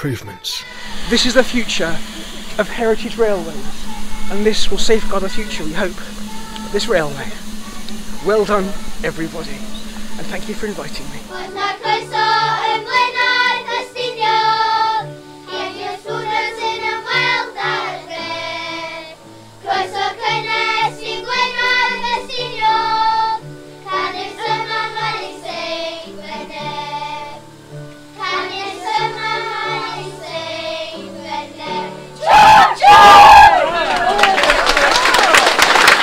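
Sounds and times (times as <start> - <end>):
children's choir singing: 0.0 - 34.6.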